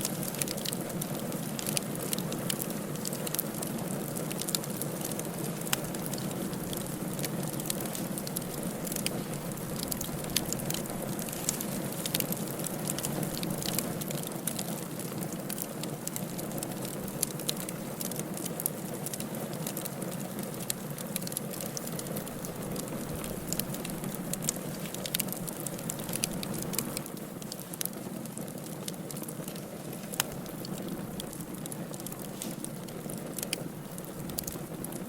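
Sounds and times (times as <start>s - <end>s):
firewood burning in fireplace: 0.0s - 35.0s.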